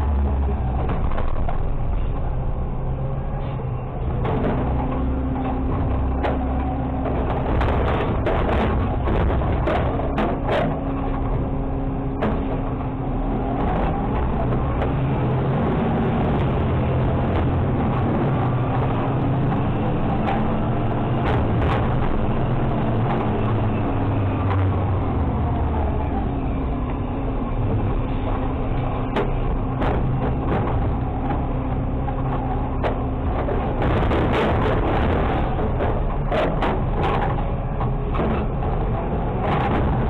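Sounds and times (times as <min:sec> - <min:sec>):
garbage truck running: 0:00.0 - 0:40.0
hydraulic packer pushing trash: 0:00.1 - 0:40.0
sharp knocks and rattles: 0:00.7 - 0:25.6, 0:27.5 - 0:40.0.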